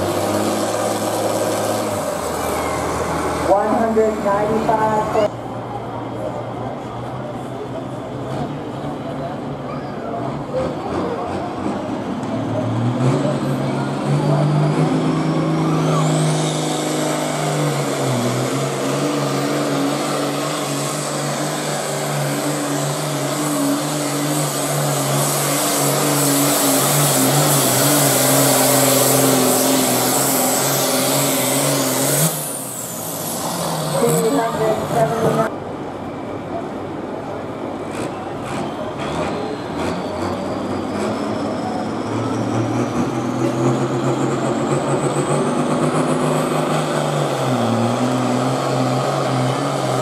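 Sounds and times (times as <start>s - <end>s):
diesel tractor engine drone: 0.0s - 50.0s.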